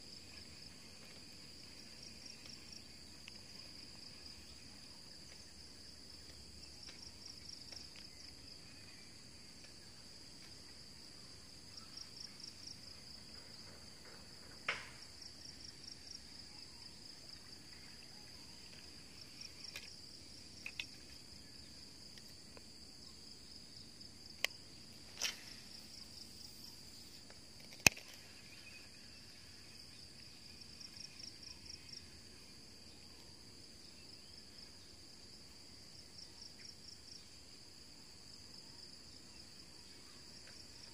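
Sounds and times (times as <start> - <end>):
insects chirping drone: 0.0 - 40.9
pulsed insect trills: 0.0 - 40.9.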